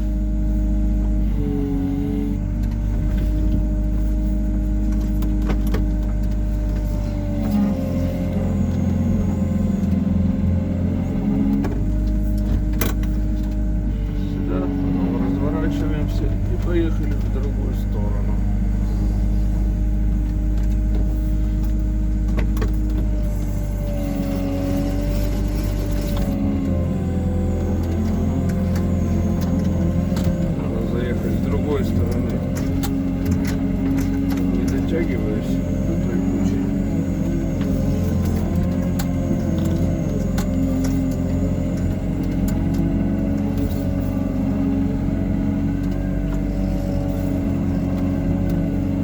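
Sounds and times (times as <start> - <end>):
excavator engine and hydraulics whining: 0.0 - 49.0.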